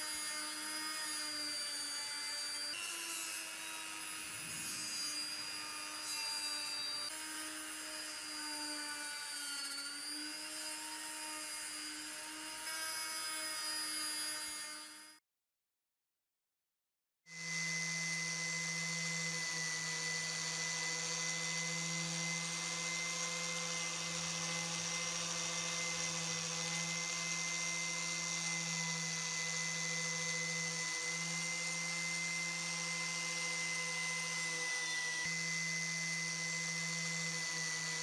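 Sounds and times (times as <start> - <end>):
electric power tool whining: 0.0 - 15.2, 17.3 - 38.0.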